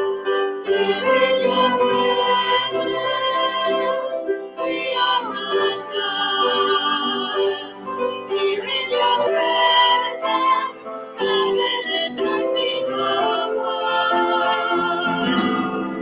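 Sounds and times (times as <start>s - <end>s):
piano: 0.0s - 16.0s
women singing worship song: 0.7s - 15.6s.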